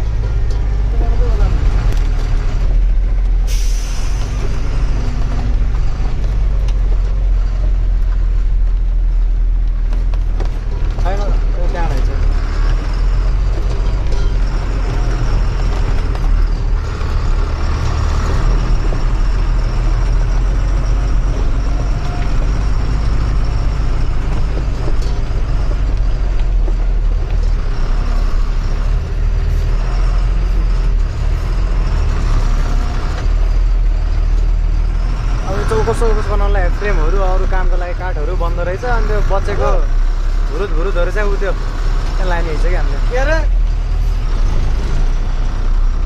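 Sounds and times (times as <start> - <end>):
heavy truck engine rumble: 0.0 - 46.0
road noise: 0.0 - 46.0.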